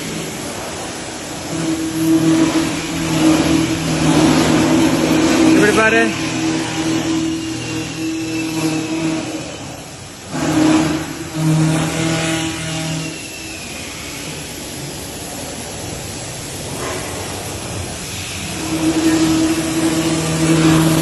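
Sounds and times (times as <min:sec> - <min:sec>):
milling machine hum: 0:00.0 - 0:21.0.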